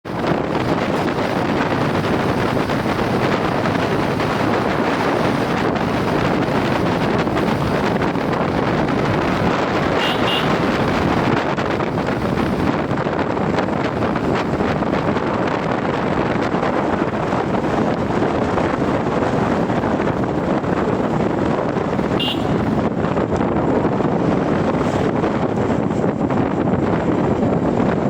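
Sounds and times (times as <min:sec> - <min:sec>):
motorcycle road noise: 0:00.0 - 0:28.0
wind rushing over microphone: 0:00.0 - 0:28.0.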